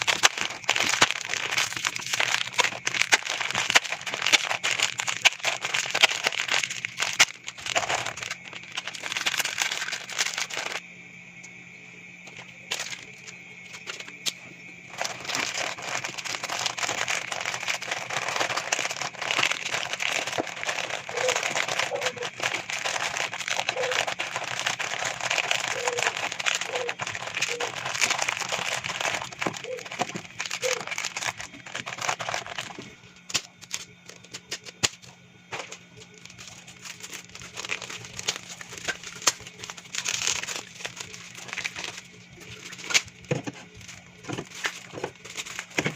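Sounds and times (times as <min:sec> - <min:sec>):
plastic packaging crinkling: 0:00.0 - 0:10.8, 0:12.2 - 0:45.9.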